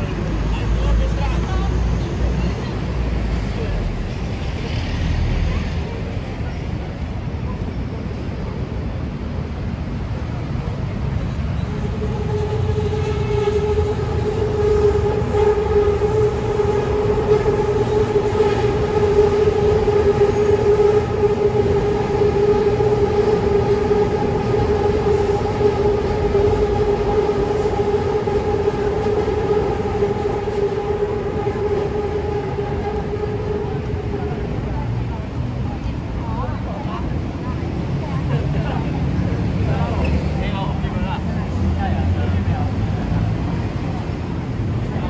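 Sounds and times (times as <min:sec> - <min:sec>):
train humming tone: 0:00.0 - 0:45.0.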